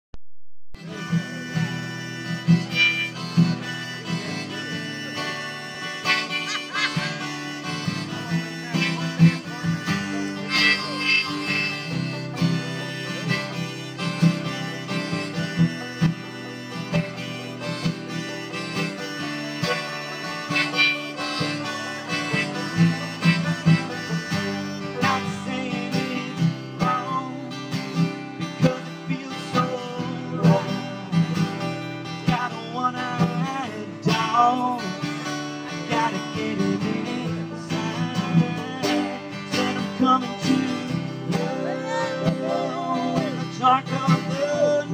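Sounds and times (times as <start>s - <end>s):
acoustic guitar strumming: 0.8s - 44.9s
banjo picking: 0.8s - 44.9s
higher melody line: 0.8s - 44.9s.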